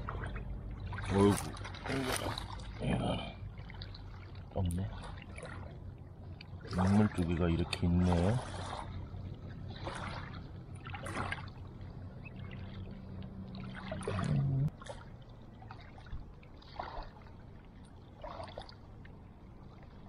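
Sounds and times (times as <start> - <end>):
water splashing softly: 0.0 - 20.0.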